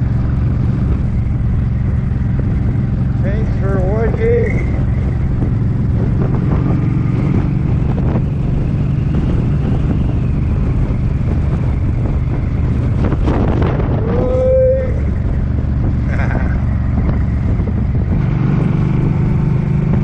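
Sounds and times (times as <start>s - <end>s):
motorcycle engine cruising: 0.0s - 20.0s
wind buffeting microphone: 0.0s - 20.0s.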